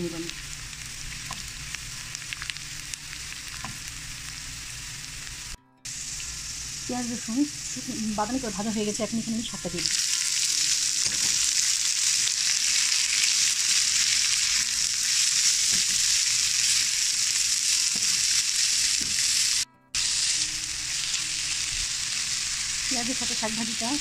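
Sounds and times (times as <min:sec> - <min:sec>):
greens sizzling in hot oil: 0:00.0 - 0:24.0.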